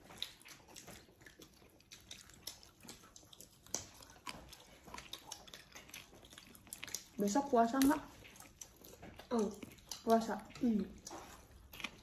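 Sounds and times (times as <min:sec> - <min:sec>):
chewing fried dough: 0:00.0 - 0:12.0
small clicks and crackles: 0:00.0 - 0:12.0.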